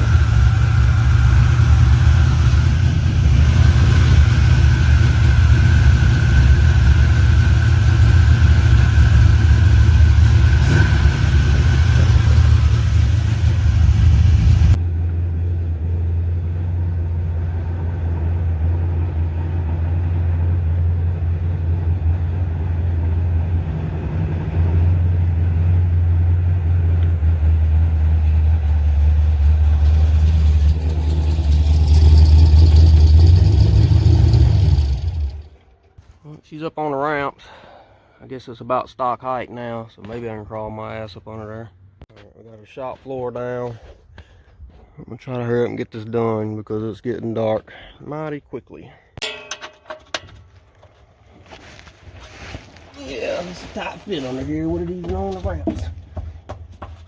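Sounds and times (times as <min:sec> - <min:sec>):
engine low rumble: 0:00.0 - 0:57.0.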